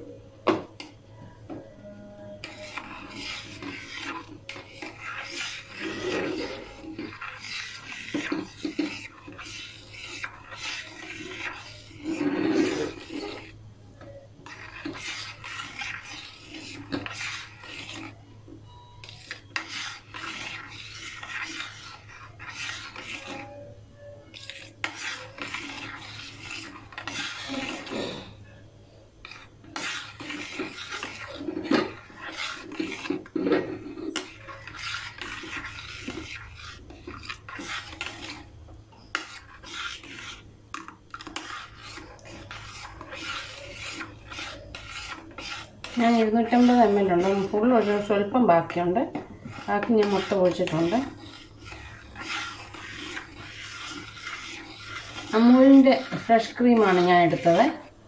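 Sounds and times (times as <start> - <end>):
utensil scraping a pan: 0.0 - 58.0.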